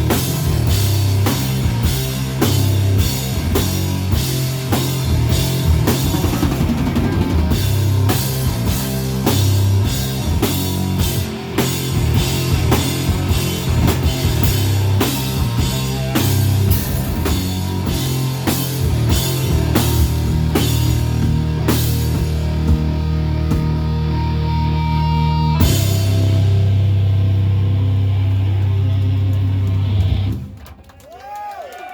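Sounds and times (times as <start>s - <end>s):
drum kit beat: 0.0s - 30.5s
rock band playing: 0.0s - 30.7s.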